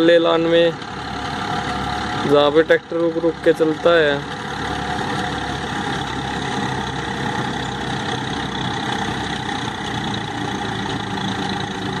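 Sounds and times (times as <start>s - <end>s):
reaper machinery running: 0.0s - 12.0s
tractor diesel engine running: 0.0s - 12.0s.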